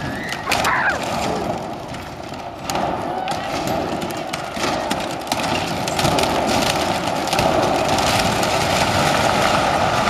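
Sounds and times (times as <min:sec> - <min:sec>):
wood splitting cracks: 0:00.0 - 0:10.0
wooden silo creaking and crackling: 0:00.0 - 0:10.0.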